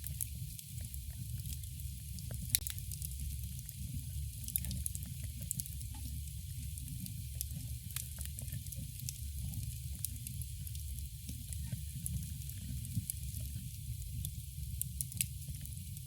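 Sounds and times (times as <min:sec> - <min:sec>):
burning wood crackling and popping: 0:00.0 - 0:16.0
low rumble of flames: 0:00.0 - 0:16.0.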